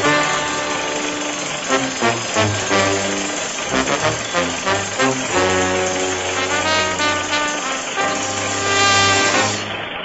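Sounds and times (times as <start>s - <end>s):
brass music with low bass: 0.0s - 10.0s.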